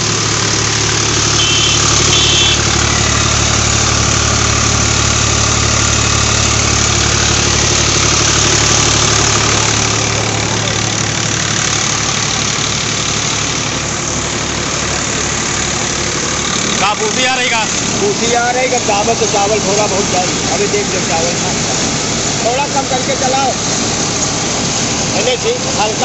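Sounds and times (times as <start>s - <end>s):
diesel tractor engine running: 0.0s - 26.0s
rice huller machine noise: 0.0s - 26.0s.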